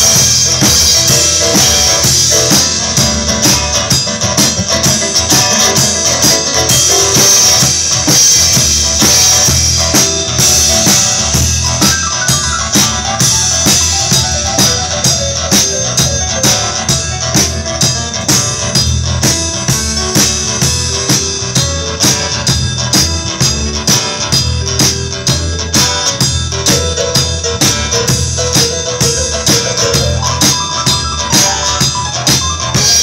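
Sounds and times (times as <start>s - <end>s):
electronic keyboard playing: 0.0s - 33.0s
steady drum beat: 0.0s - 33.0s.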